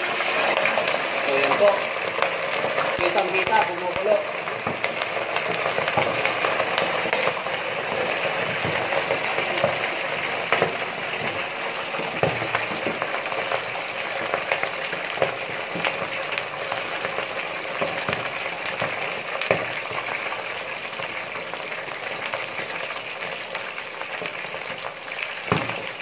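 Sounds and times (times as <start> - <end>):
meat deep-frying in oil: 0.0 - 26.0.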